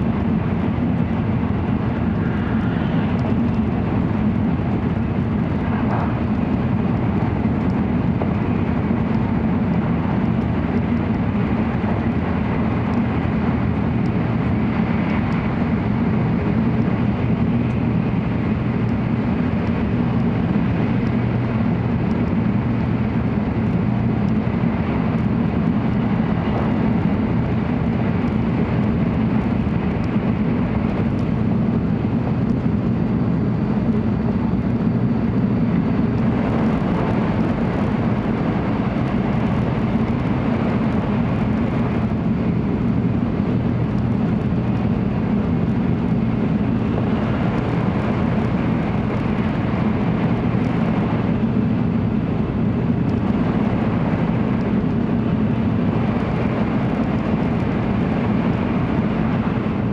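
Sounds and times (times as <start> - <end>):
train running noise inside cabin: 0.0 - 59.9.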